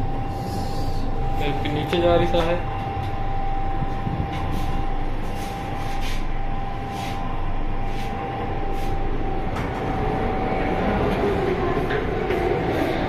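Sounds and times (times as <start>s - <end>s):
high whine: 0.0s - 13.0s
lift low rumble: 0.0s - 13.0s.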